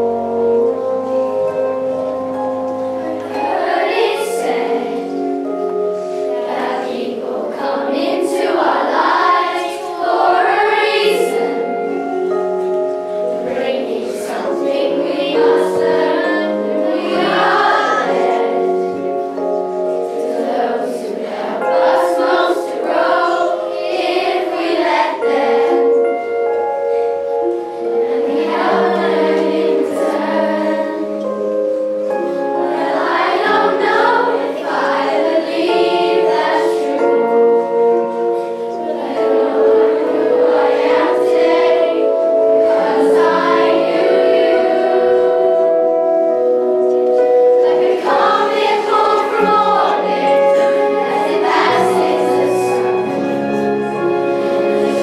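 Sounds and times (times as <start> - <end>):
children's choir singing: 0.0 - 55.0
musical accompaniment: 0.0 - 55.0.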